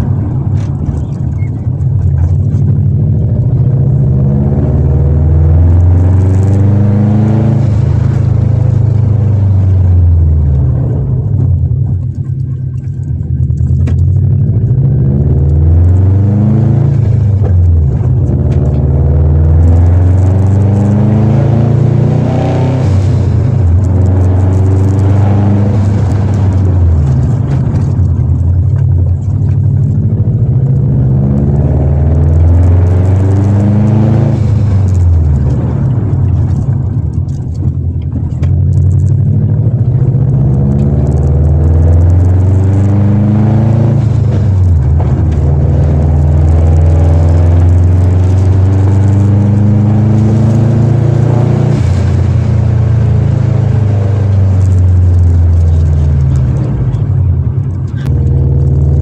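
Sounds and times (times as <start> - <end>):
car engine deep rumble revving: 0.0 - 59.0.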